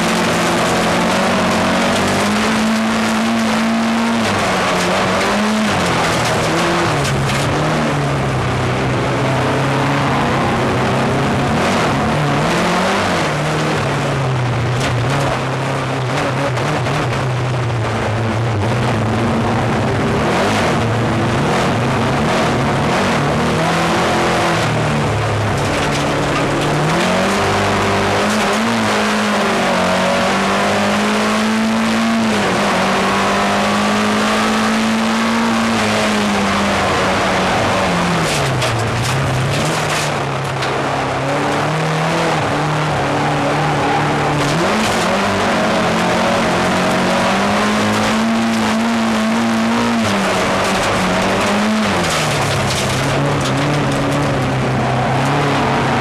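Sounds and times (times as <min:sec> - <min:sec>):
race car engine revving: 0:00.0 - 0:56.0
tyre and road noise: 0:00.0 - 0:56.0.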